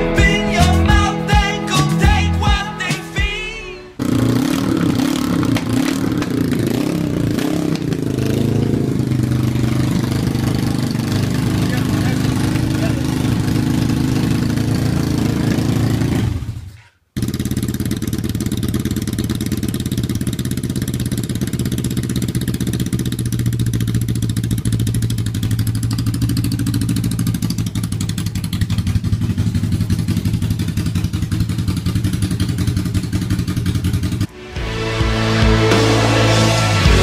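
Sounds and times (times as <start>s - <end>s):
motorcycle engine idling: 4.0s - 34.3s.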